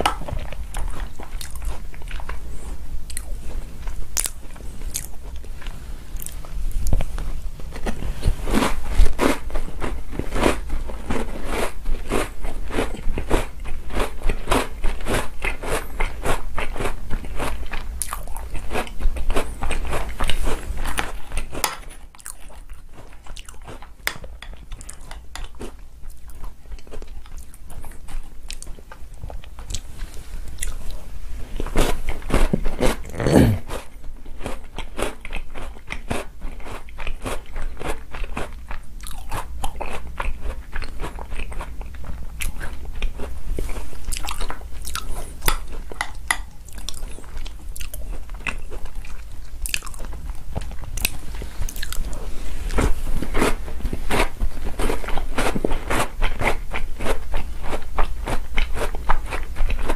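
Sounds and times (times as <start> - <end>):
chewing and crunching cookies: 0.0 - 59.9.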